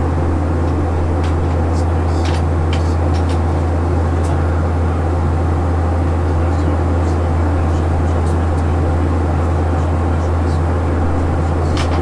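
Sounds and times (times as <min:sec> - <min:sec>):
airplane engine drone: 0:00.0 - 0:12.0.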